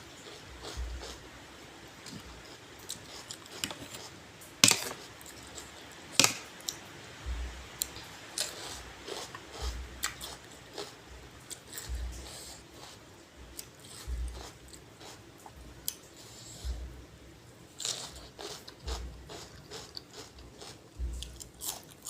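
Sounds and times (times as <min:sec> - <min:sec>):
crunchy chewing of vegetables: 0:00.0 - 0:01.4, 0:02.0 - 0:16.9, 0:17.7 - 0:22.0.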